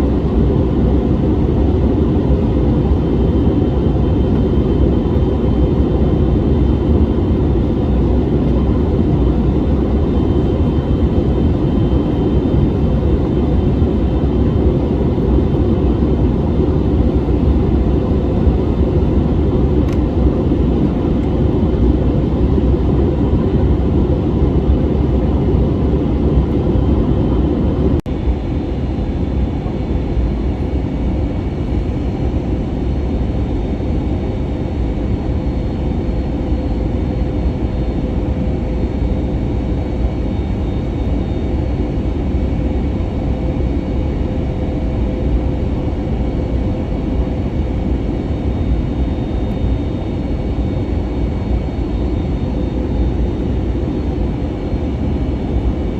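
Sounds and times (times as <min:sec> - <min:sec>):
jet engine cabin roar: 0:00.0 - 0:55.9.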